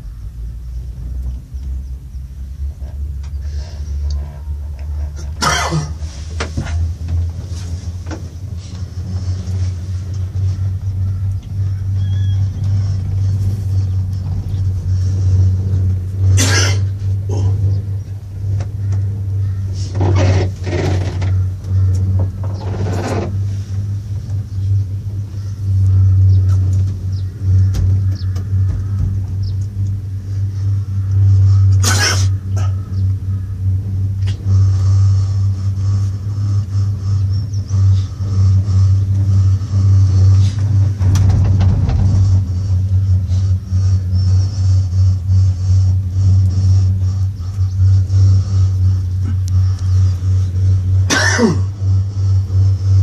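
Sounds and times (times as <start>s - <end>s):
gondola cabin rumble: 0.0s - 53.0s
loud rattle: 1.0s - 53.0s.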